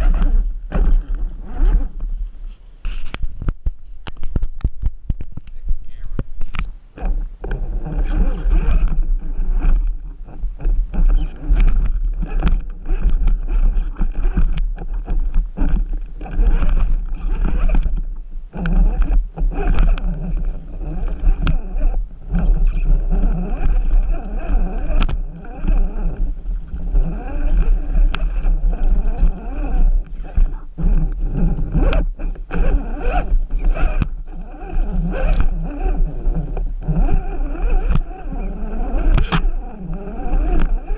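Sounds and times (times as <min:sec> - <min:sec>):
chassis knocking and scraping: 0:00.0 - 0:40.9
toy car drivetrain humming: 0:07.0 - 0:40.9.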